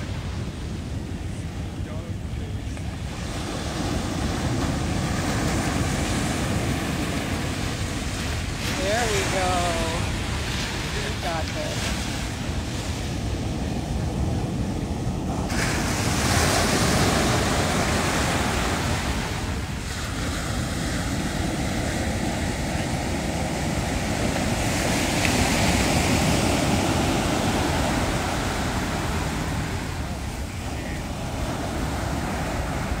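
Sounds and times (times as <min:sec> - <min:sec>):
ocean surf breaking on sand: 0:00.0 - 0:33.0
wind buffeting microphone: 0:00.0 - 0:33.0.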